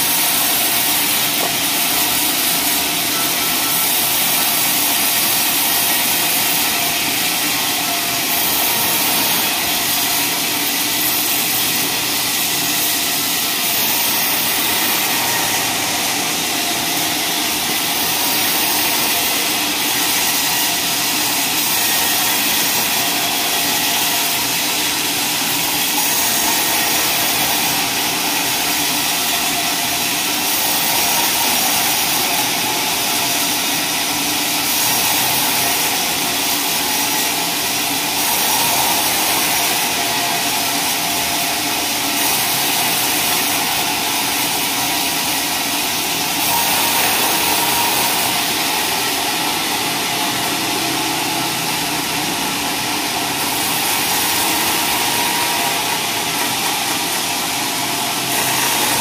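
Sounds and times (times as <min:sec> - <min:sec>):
band saw cutting log: 0:00.0 - 0:59.0
saw drive running: 0:00.0 - 0:59.0.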